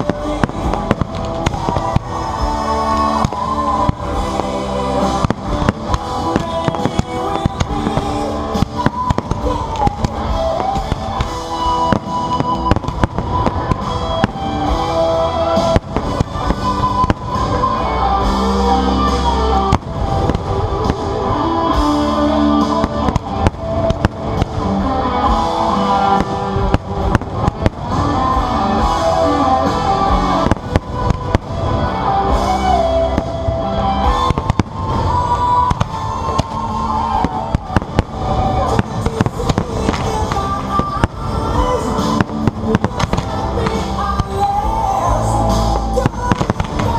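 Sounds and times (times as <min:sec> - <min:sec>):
fireworks bangs and crackles: 0:00.0 - 0:46.9
loud music: 0:00.0 - 0:46.9.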